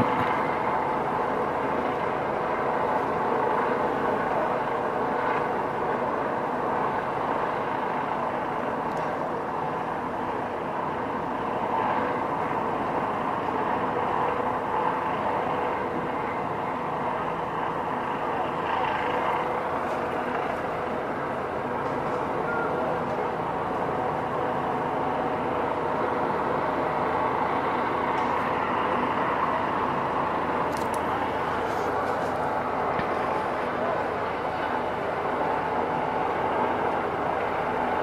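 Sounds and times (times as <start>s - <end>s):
urban rumble: 0.0s - 38.0s.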